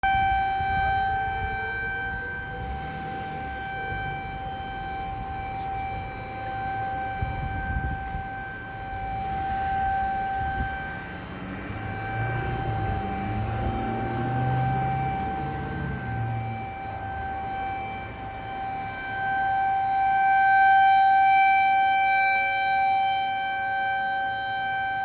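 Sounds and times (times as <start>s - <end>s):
fainter sirens: 0.0s - 25.0s
warning siren steady pitch: 0.0s - 25.0s.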